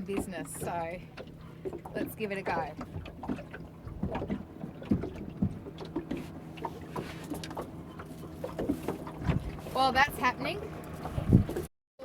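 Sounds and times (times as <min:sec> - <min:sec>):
low motor hum: 0:00.0 - 0:11.7.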